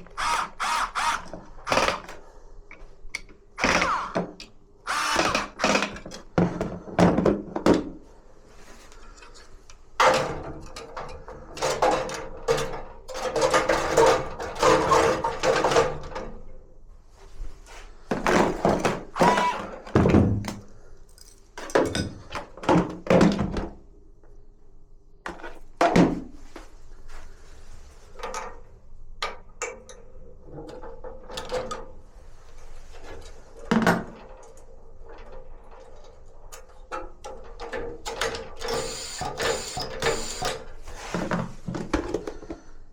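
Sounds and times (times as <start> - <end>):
tools and parts clattering: 0.1 - 16.5, 18.1 - 23.8, 29.2 - 42.8.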